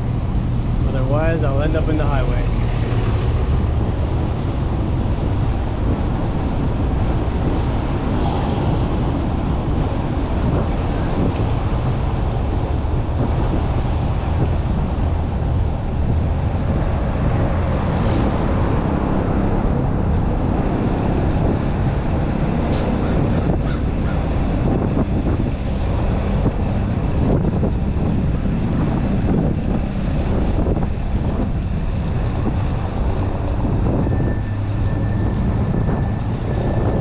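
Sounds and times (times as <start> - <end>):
road noise: 0.0 - 37.0
wind buffeting microphone: 0.0 - 37.0.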